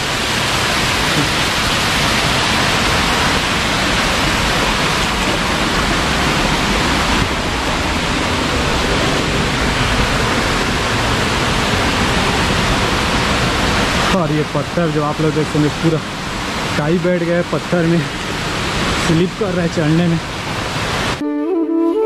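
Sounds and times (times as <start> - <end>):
small waterfall rushing: 0.0 - 21.7.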